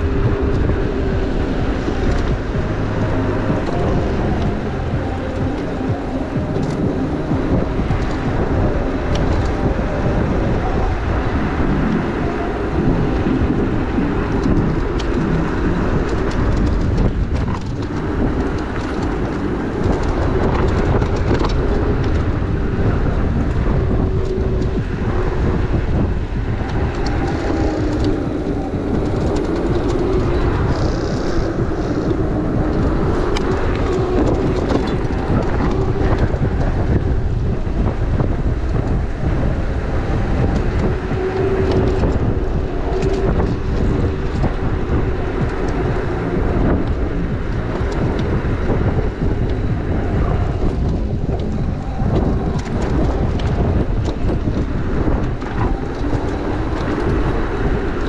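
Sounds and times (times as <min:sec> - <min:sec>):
faint wavering hum: 0:00.0 - 0:58.0
tyre and road rumble: 0:00.0 - 0:58.0
wind rushing over microphone: 0:00.0 - 0:58.0.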